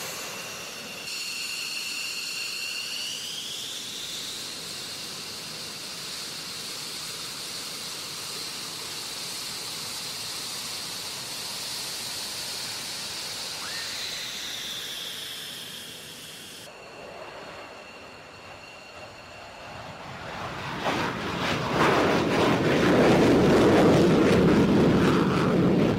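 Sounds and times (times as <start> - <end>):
jet engines rushing and whining: 0.0 - 25.9.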